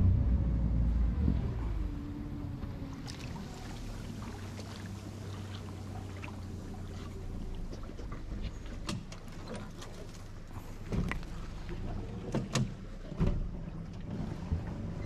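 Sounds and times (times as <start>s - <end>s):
outboard motor droning: 0.0s - 15.0s.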